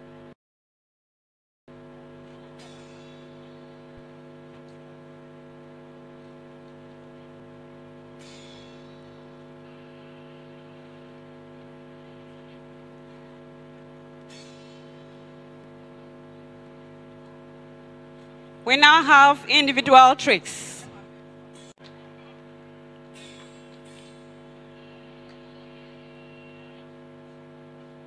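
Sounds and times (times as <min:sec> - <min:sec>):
electrical mains hum: 0:01.7 - 0:28.0.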